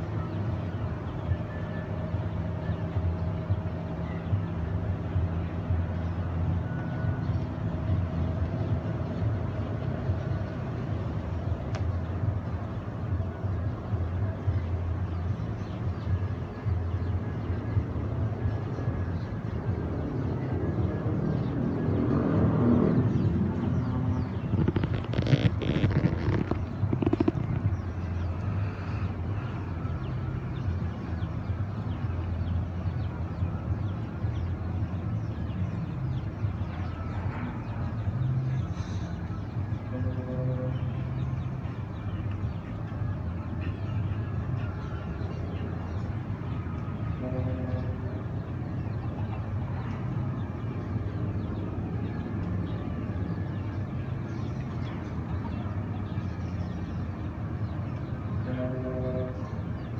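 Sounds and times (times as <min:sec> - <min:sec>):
boat engines rumbling: 0:00.0 - 0:59.9.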